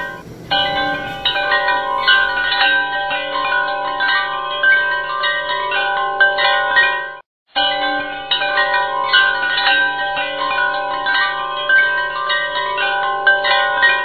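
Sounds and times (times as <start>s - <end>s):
chimes ringing: 0.0s - 14.0s.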